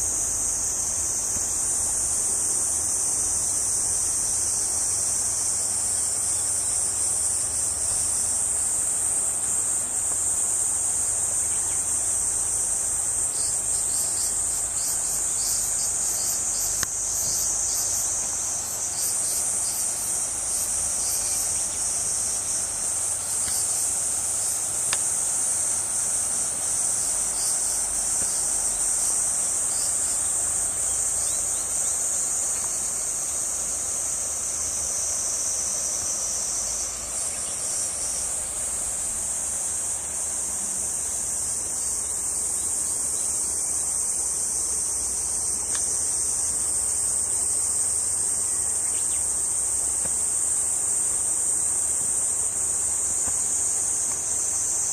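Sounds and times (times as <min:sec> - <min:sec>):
insects shrilling: 0:00.0 - 0:54.9.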